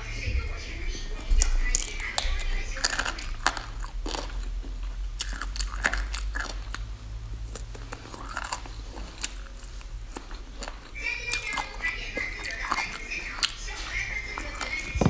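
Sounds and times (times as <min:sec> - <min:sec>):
low steady hum: 0:00.0 - 0:15.0
person chewing crunchy food: 0:01.2 - 0:15.0.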